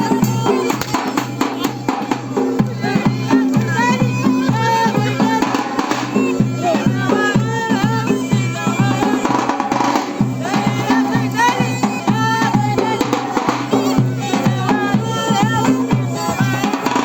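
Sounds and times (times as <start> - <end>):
ornamented vocal melody: 0.0 - 17.0
steady drum beat: 0.0 - 17.0.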